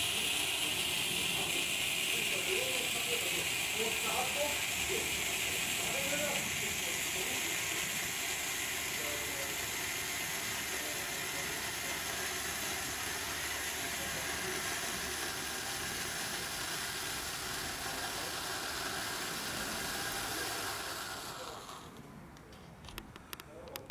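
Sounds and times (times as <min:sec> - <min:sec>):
flare burning with hiss: 0:00.0 - 0:22.0.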